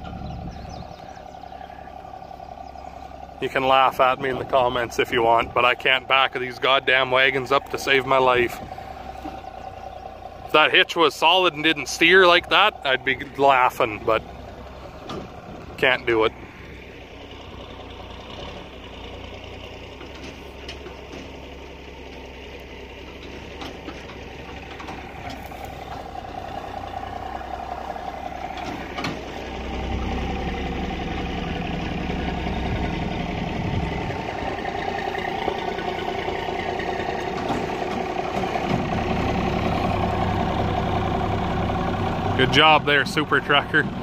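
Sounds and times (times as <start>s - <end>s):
truck engine reversing: 0.0s - 44.0s.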